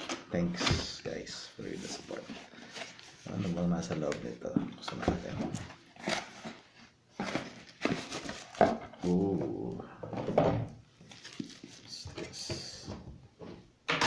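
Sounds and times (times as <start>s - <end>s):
cardboard and plastic packaging rustling: 0.0s - 13.6s.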